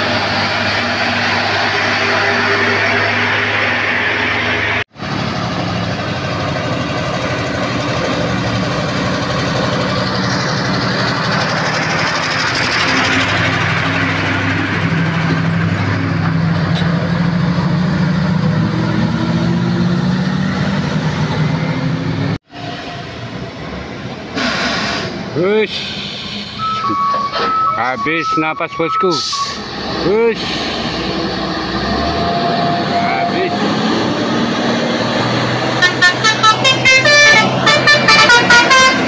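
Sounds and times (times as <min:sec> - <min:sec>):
diesel truck engines driving past: 0:00.0 - 0:39.0.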